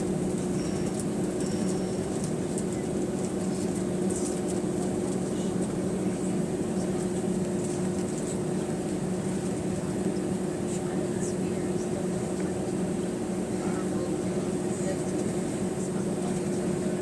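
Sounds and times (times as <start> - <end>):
airplane cabin hum: 0.0 - 17.0.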